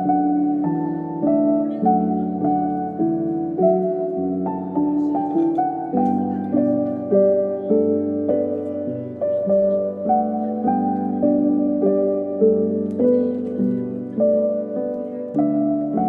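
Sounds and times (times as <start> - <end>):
gentle instrumental music: 0.0 - 16.0.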